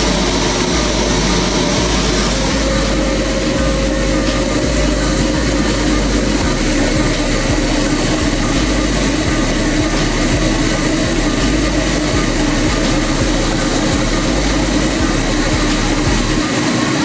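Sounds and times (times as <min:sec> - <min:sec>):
refrigerant recovery machine humming: 0:00.0 - 0:17.0.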